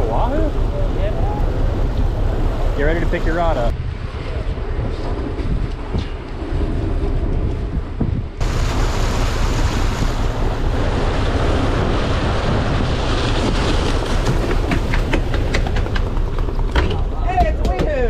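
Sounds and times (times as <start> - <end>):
rushing wake water: 0.0 - 5.1, 5.8 - 17.2
wind buffeting microphone: 0.0 - 18.0.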